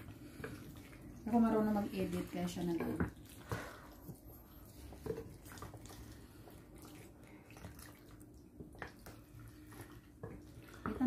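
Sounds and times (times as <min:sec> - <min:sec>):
wet squelching of stirred pasta: 0:00.0 - 0:11.0.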